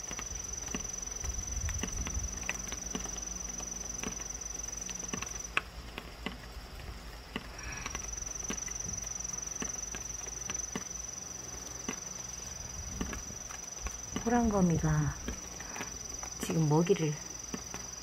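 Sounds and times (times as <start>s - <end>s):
rain drips tapping on plastic tarp: 0.0s - 18.0s.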